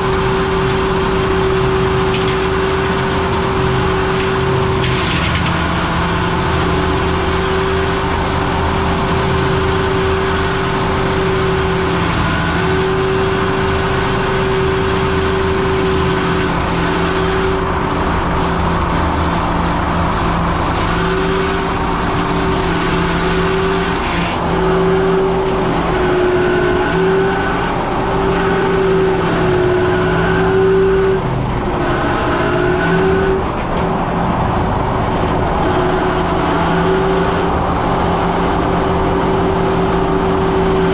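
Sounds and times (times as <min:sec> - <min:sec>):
mower high whine: 0:00.0 - 0:40.9
skid steer engine running: 0:00.0 - 0:40.9.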